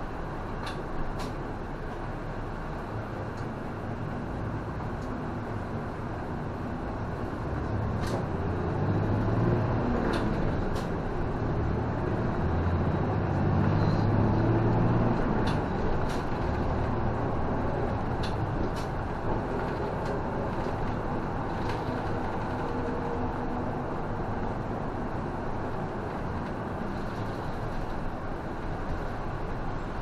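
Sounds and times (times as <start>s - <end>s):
bus engine and drivetrain: 0.0s - 30.0s.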